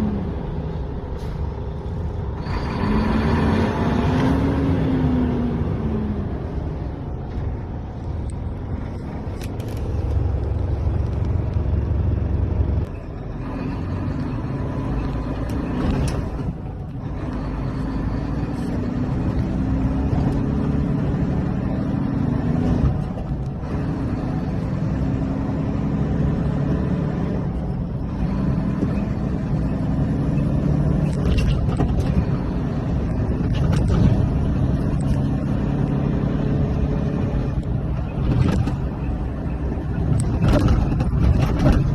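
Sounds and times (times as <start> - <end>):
truck diesel engine: 0.0 - 41.9
gear changes: 0.8 - 41.9.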